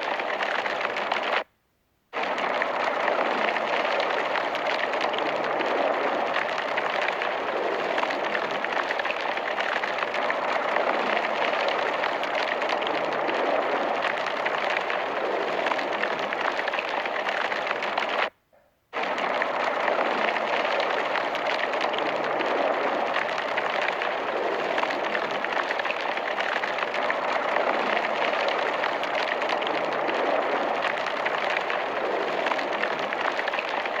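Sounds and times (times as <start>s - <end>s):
fire rushing and crackling: 0.0s - 1.4s, 2.2s - 18.3s, 19.0s - 34.0s.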